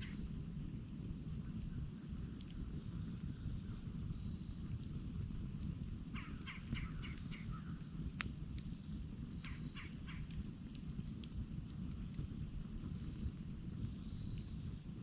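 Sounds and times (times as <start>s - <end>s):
campfire crackling and popping: 0.0s - 15.0s
low rush of fire: 0.0s - 15.0s.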